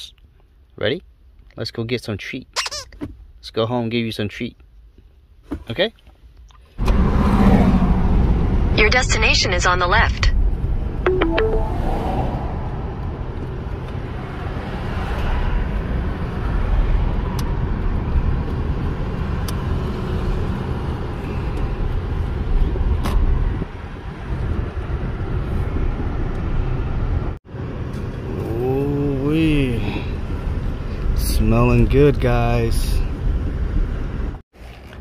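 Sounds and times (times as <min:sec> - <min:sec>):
car engine and tyre rumble: 0:04.6 - 0:11.0, 0:11.6 - 0:35.0.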